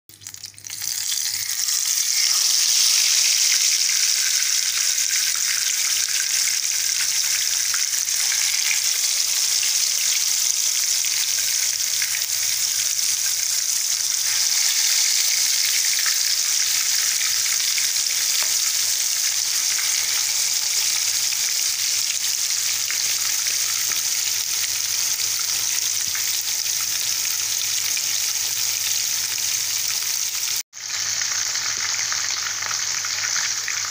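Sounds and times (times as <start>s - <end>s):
hot oil sizzling: 0.1s - 33.9s.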